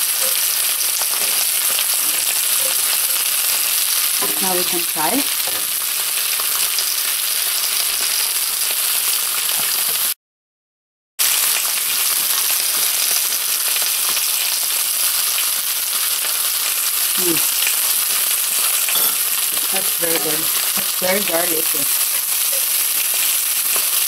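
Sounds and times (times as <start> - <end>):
food sizzling in a pan: 0.0 - 10.2, 11.2 - 24.0.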